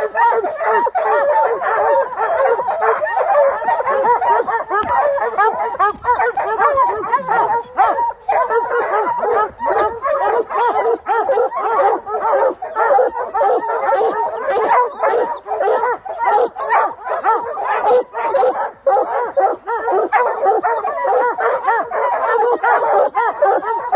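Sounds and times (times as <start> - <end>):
hounds barking and baying: 0.0 - 23.9.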